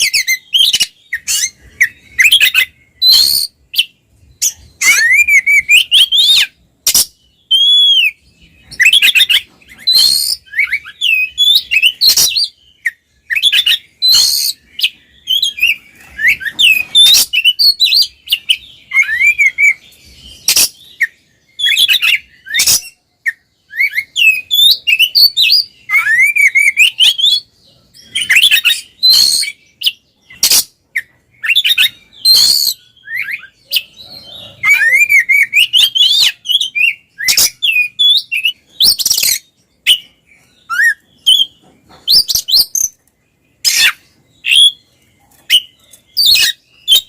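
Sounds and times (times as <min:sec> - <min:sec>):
birds singing whistled notes: 0:00.0 - 0:47.0.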